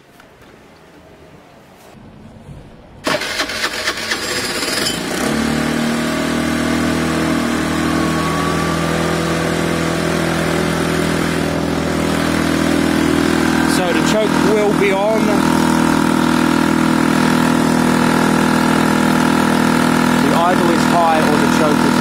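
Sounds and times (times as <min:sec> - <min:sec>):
scooter engine starting and idling: 0:03.0 - 0:22.0.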